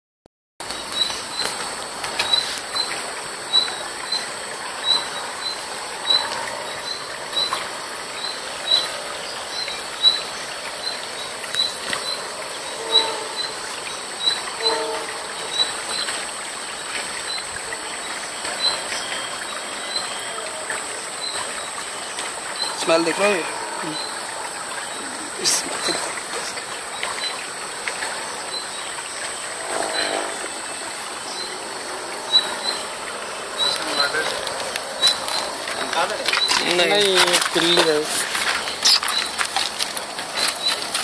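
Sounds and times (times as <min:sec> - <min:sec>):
insect chirping: 0:00.6 - 0:41.0.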